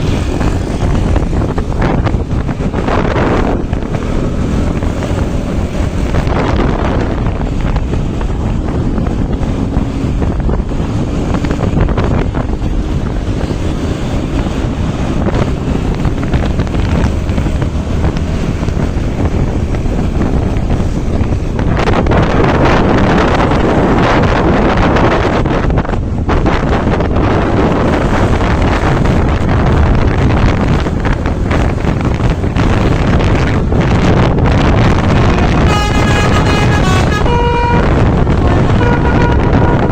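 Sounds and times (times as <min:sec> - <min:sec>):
vehicle rumbling on road: 0:00.0 - 0:39.9
wind buffeting microphone: 0:00.0 - 0:39.9.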